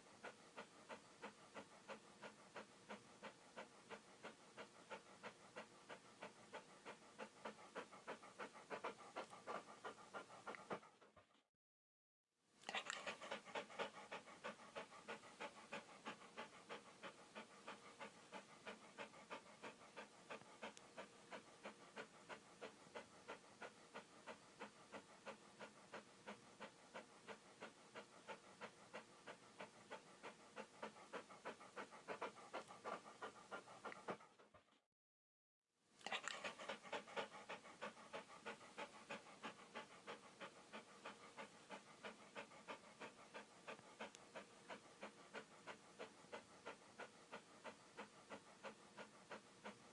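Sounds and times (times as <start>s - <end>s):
dog panting: 0.0s - 11.5s, 12.6s - 34.8s, 36.0s - 49.9s.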